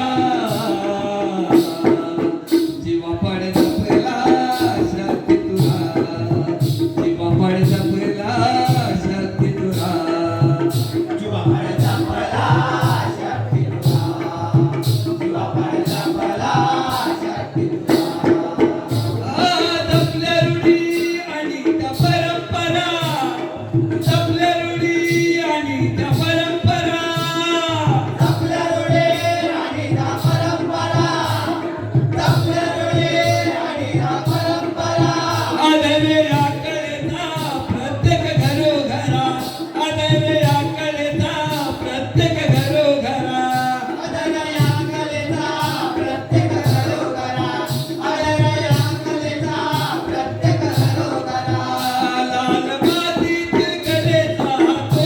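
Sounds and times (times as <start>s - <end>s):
hand drum beat: 0.0s - 55.0s
men singing folk music: 0.0s - 55.0s.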